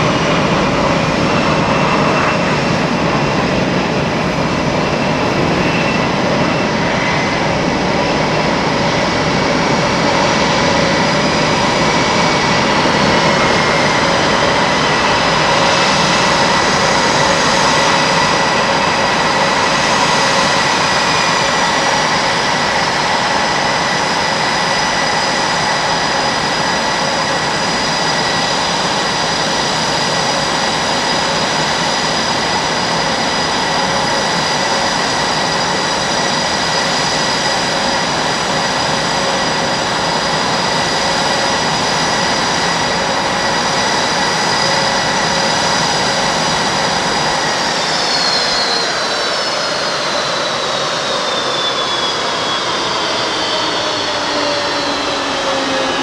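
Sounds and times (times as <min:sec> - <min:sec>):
high-pitched engine whine: 0:00.0 - 0:56.0
jet engines idling: 0:00.0 - 0:56.0.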